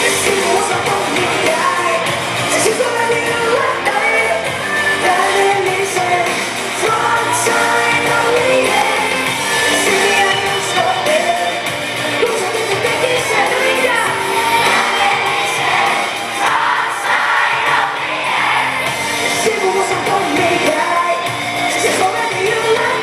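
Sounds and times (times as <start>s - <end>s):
pop-rock music with singing: 0.0s - 23.0s.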